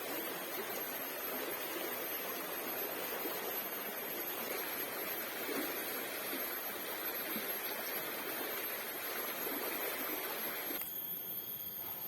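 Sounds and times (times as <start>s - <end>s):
stream water flowing: 0.0s - 10.8s.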